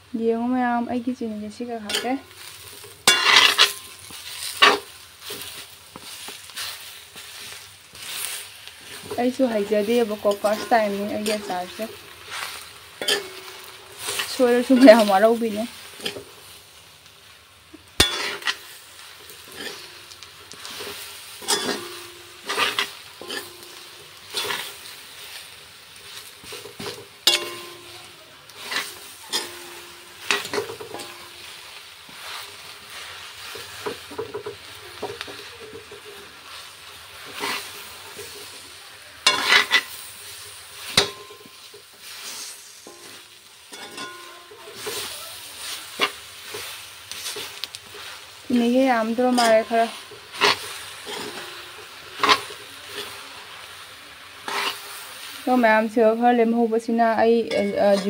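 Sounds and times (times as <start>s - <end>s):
soft sizzle: 0.0s - 58.0s
metal spatula scraping a wok: 1.5s - 16.8s, 17.9s - 56.2s, 57.1s - 58.0s.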